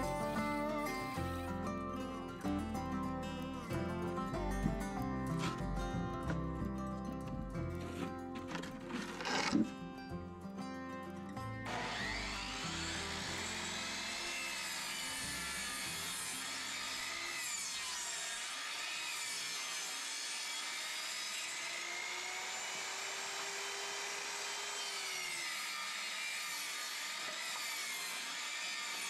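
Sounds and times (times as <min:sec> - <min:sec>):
table saw cutting wood: 0:00.0 - 0:04.3, 0:07.8 - 0:09.9, 0:11.6 - 0:29.0.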